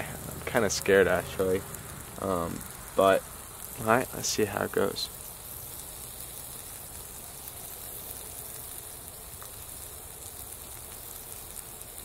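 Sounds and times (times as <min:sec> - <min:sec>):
campfire embers hissing: 0:00.0 - 0:12.0
faint fire crackle: 0:00.0 - 0:12.0.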